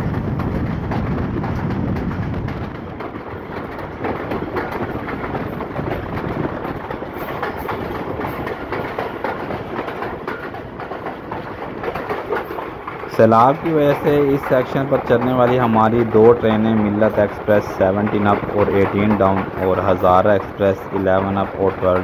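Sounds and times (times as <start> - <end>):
train wheels rumbling on rails: 0.0 - 22.0
wheels clattering over rail joints: 0.0 - 22.0.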